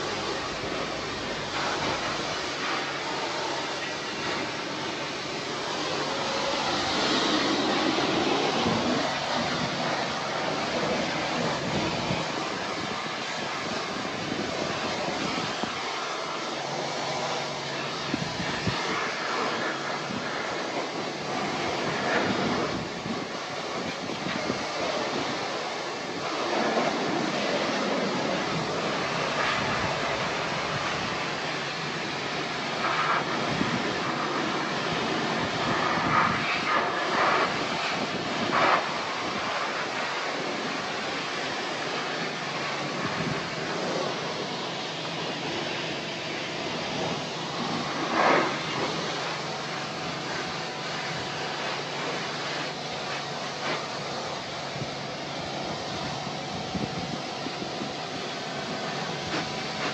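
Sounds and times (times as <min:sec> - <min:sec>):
pressure washer spraying metal: 0:00.0 - 0:59.9.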